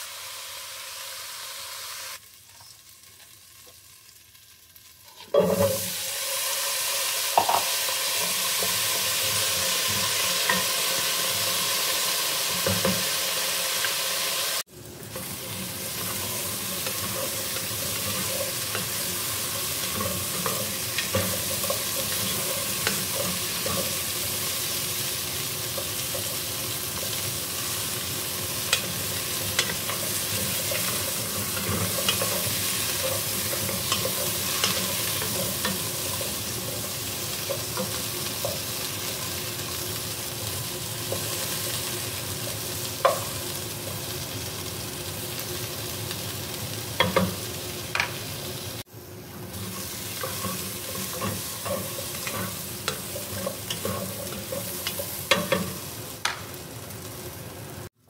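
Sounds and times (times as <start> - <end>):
potatoes sizzling in oil: 0.0 - 58.0.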